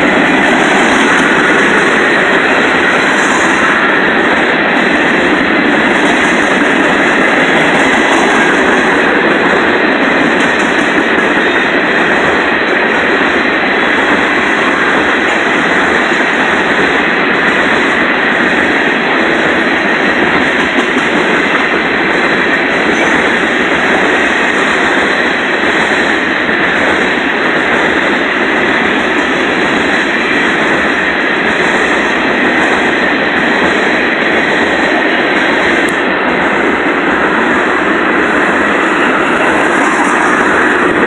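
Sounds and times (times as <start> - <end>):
freight train wheels rattling on rail: 0.0 - 41.0.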